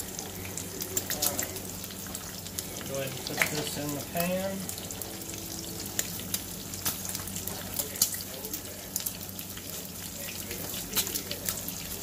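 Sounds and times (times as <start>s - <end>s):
grease crackling and popping: 0.0s - 12.0s
meat sizzling in frying pans: 0.0s - 12.0s.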